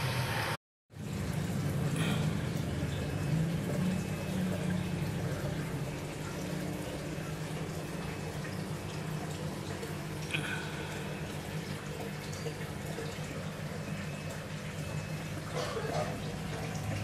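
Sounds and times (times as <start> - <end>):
aquarium filter pump humming: 0.0 - 17.0
water trickling: 0.9 - 17.0.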